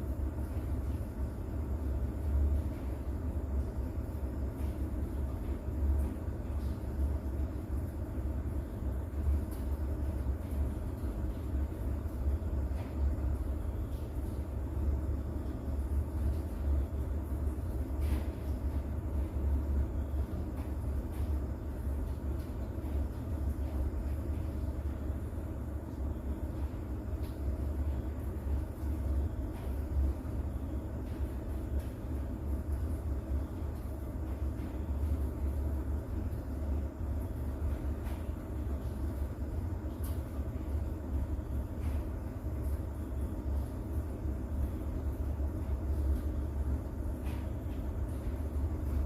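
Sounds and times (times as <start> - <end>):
rain: 0.1 - 49.0.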